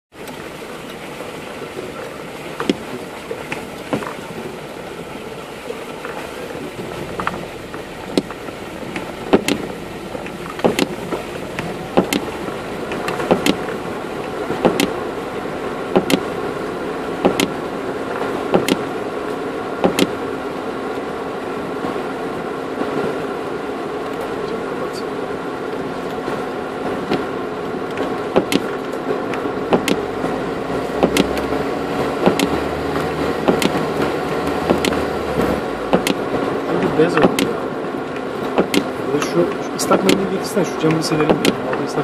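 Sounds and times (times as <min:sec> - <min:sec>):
vehicle engine running: 0:00.1 - 0:42.0.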